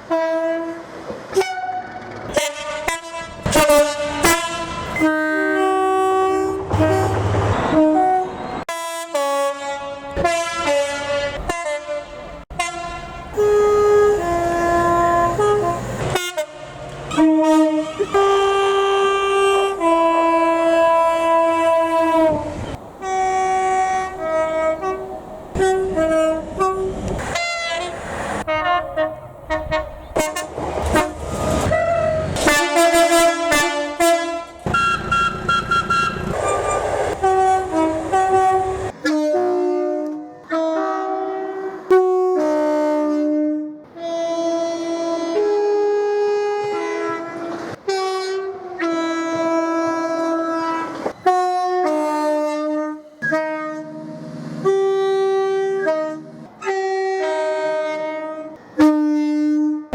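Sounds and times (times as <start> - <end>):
train running noise: 0.0 - 59.0
locomotive air horns playing a tune: 0.0 - 59.9.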